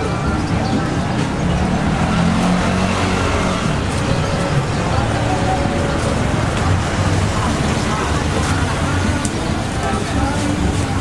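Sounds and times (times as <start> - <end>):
engine humming: 0.0 - 11.0
people talking: 0.0 - 11.0.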